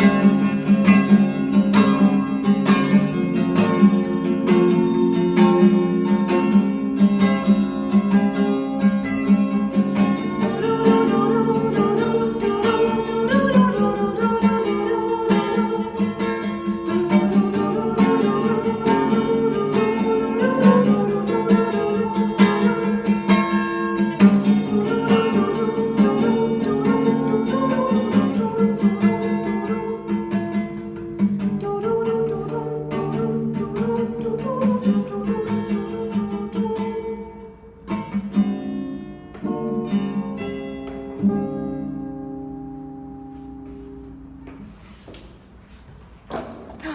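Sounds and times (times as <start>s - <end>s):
acoustic guitar strumming chords: 0.0s - 45.0s.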